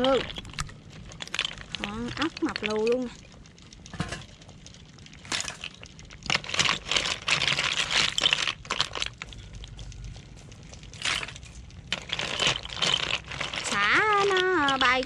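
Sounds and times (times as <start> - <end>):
snail shells clattering: 0.0 - 15.0.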